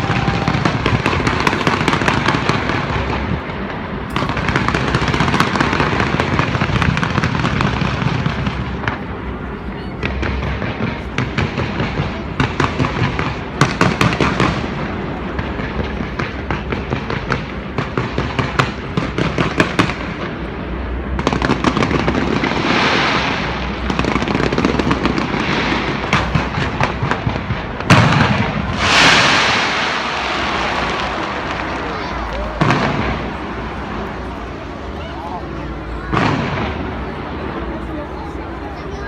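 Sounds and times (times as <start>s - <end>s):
loud firework burst: 0.0s - 38.6s
fireworks popping and banging: 0.0s - 38.8s
fireworks crackling: 0.0s - 39.0s.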